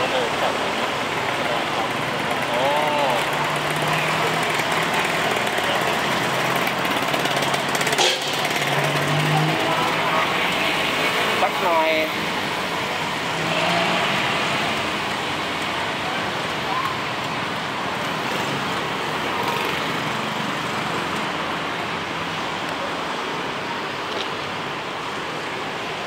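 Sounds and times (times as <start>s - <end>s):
city traffic hiss: 0.0s - 26.0s.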